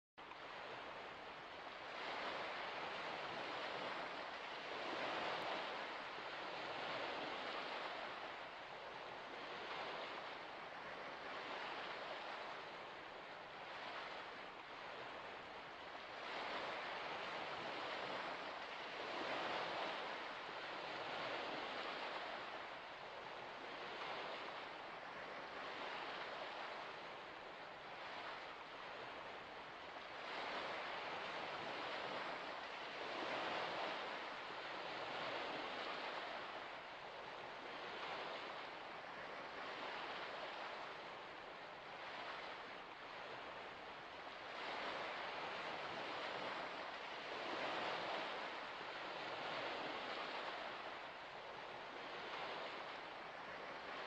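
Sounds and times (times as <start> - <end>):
water lapping at shore: 0.2 - 54.0.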